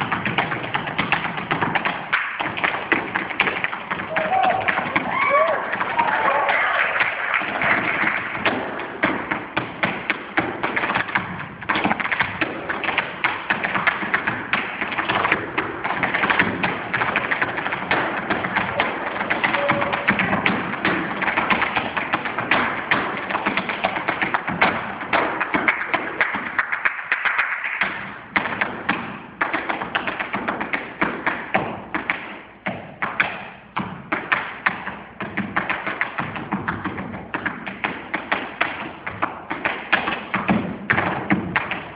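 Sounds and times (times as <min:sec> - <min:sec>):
tap shoes striking stage floor: 0:00.0 - 0:41.9.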